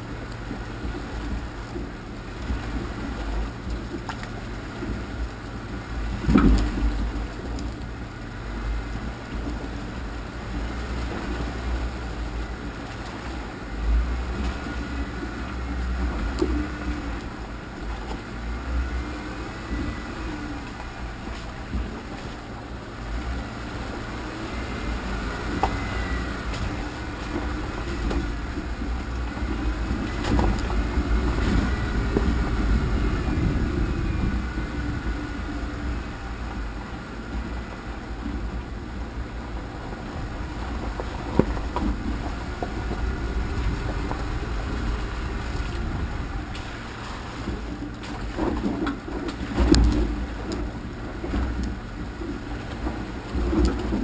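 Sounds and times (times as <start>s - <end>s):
off-road vehicle engine running: 0.0s - 54.0s
vehicle body rumbling: 0.0s - 54.0s.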